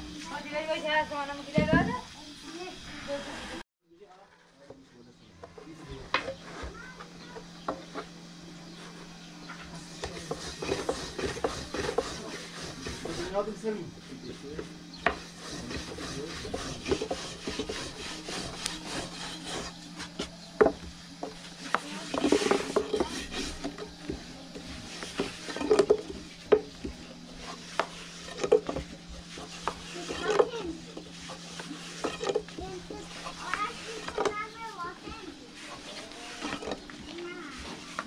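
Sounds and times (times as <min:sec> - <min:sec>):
steady low hum: 0:04.9 - 0:38.0
rolling pin rolling over dough: 0:06.3 - 0:38.0.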